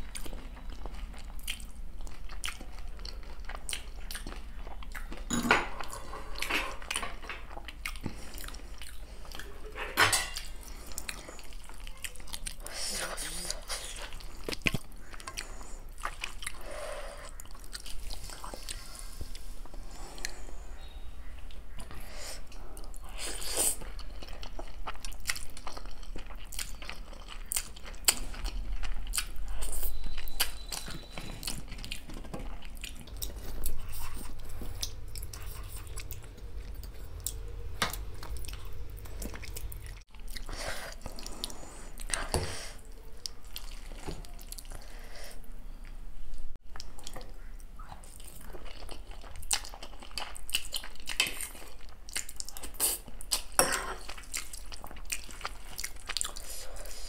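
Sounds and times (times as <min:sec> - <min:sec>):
chewing and crunching: 0:00.0 - 0:45.1, 0:46.6 - 0:57.0.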